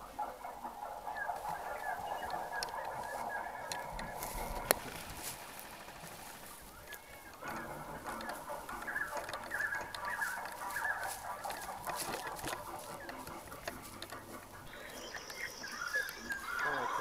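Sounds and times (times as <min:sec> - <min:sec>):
footsteps crunching dry leaves: 0:01.3 - 0:17.0.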